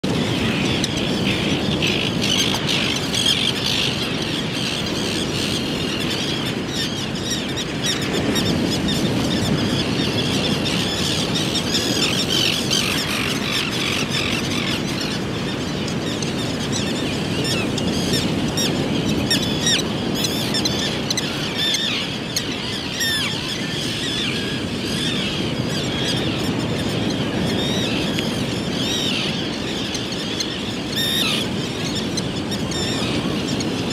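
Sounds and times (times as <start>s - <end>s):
terns chirping and squealing: 0.2s - 33.9s.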